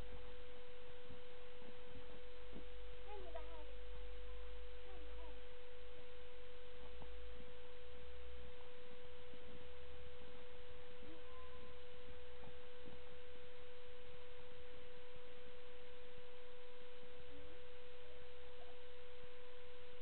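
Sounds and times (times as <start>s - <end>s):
background hiss: 0.0s - 20.0s
steady pure tone: 0.0s - 20.0s.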